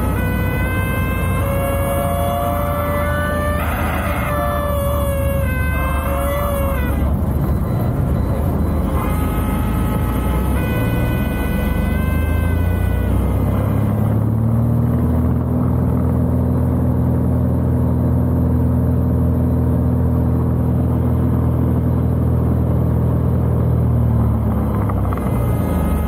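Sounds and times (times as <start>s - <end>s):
aircraft engine and propeller droning: 0.0s - 26.0s.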